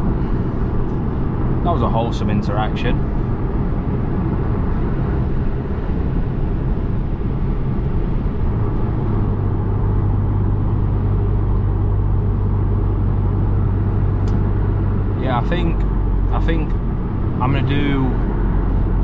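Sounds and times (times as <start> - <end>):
car engine rumble: 0.0 - 19.0
low engine drone: 0.0 - 19.0
road noise: 0.0 - 19.0.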